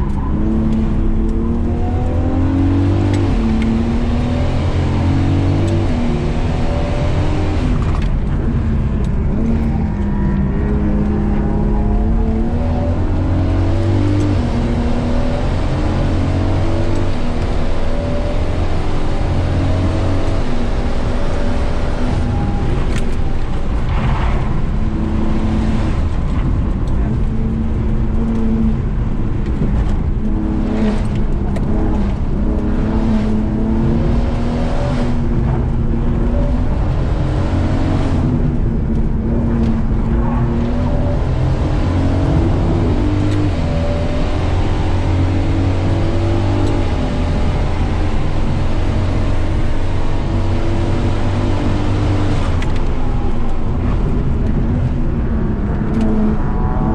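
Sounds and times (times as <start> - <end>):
car engine revving: 0.0 - 56.9
road noise: 0.0 - 56.9.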